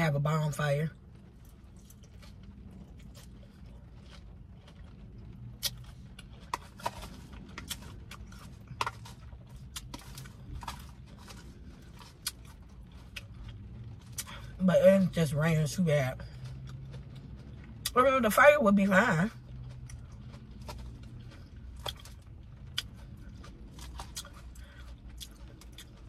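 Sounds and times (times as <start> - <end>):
chewing and crunching salad: 0.0 - 26.0
steady low hum: 0.0 - 26.0.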